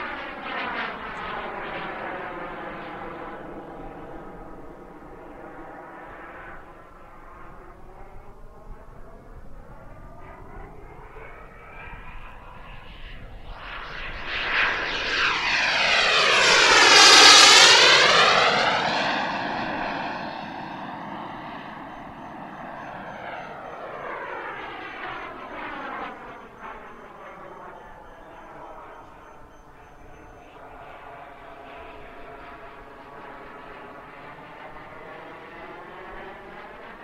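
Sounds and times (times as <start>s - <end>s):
model jet turbine flyby: 0.0s - 37.0s.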